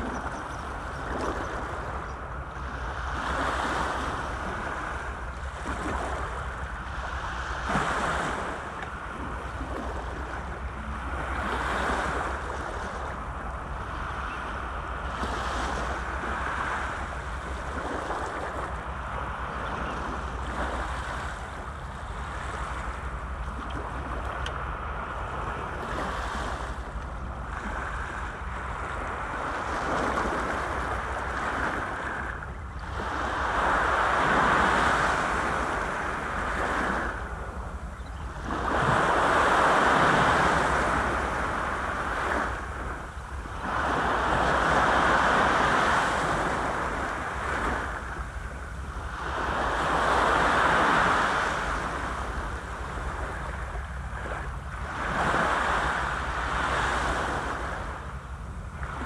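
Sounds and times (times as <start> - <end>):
sea waves breaking on seawall: 0.0 - 59.0
wind rumble on microphone: 0.0 - 59.0.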